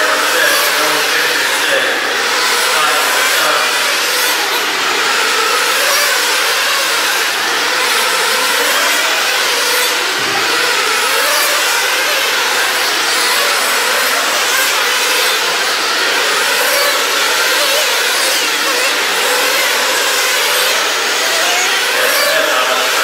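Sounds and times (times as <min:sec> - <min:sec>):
rc car engines buzzing: 0:00.0 - 0:23.0.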